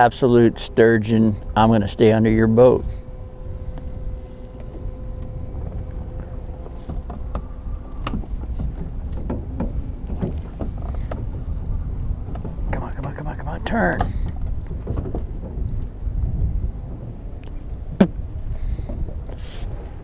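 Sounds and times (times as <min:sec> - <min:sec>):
boat engine low rumble: 0:00.0 - 0:20.0
faint steady hum: 0:00.0 - 0:20.0.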